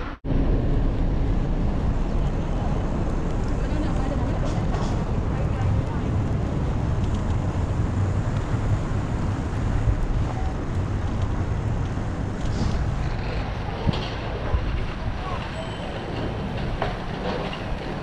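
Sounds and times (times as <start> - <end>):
wind buffeting microphone: 0.2 - 18.0.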